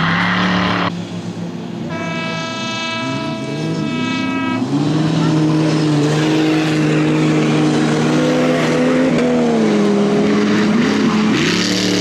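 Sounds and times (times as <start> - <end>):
off-road truck engine revving: 0.0 - 12.0.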